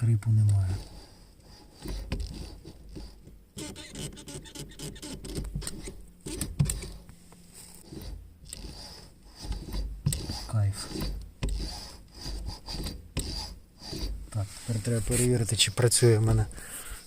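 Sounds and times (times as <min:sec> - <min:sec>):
brake pedal clicking and rubbing: 0:00.2 - 0:14.3.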